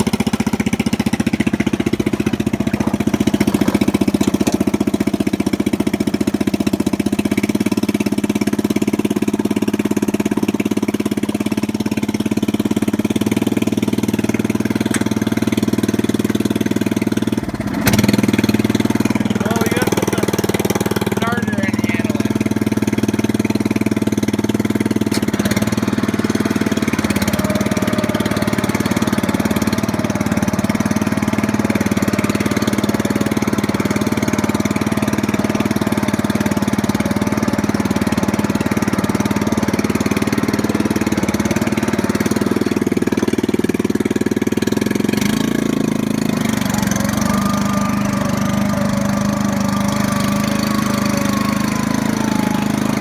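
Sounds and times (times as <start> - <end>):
riding mower engine running: 0.0 - 53.0.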